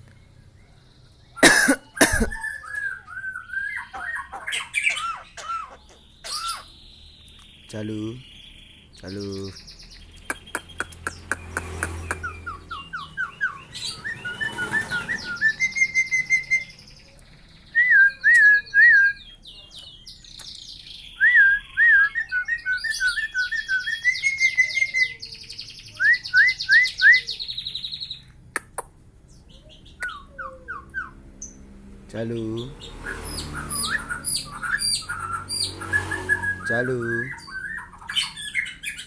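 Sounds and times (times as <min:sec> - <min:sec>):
bird whistling and chirping: 0:00.0 - 0:28.3, 0:29.3 - 0:31.6, 0:32.4 - 0:39.0.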